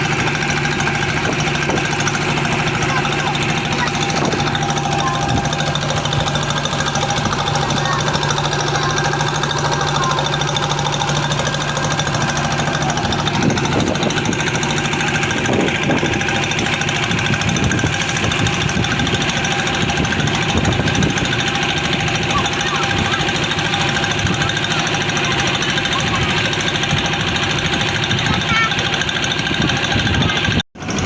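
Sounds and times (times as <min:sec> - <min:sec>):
boat engine knocking drone: 0:00.0 - 0:31.0.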